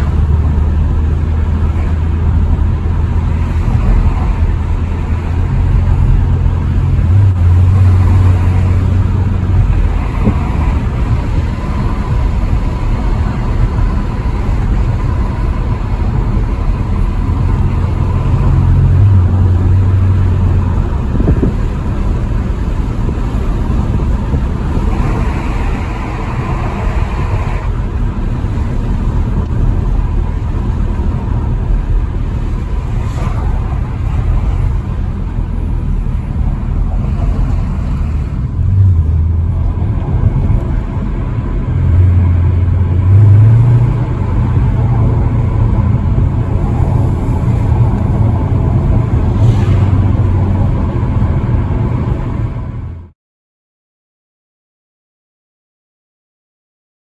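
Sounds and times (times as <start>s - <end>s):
car engine rumble: 0.0s - 53.2s
road rumble: 0.0s - 53.2s.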